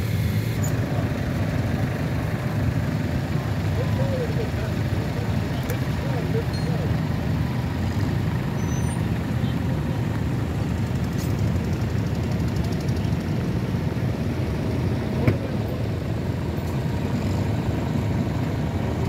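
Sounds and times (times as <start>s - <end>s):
tractor engines running: 0.0s - 19.0s.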